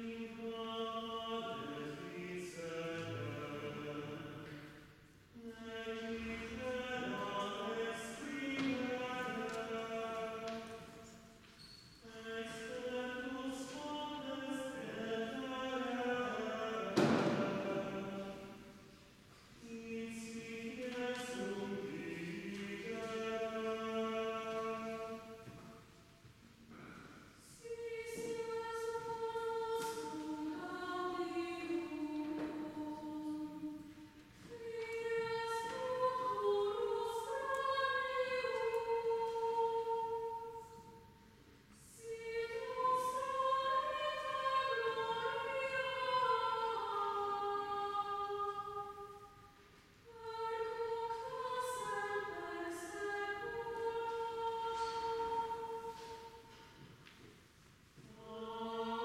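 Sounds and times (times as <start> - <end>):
choir singing a hymn in harmony: 0.0 - 11.4, 12.0 - 26.0, 26.7 - 57.0, 58.0 - 59.0.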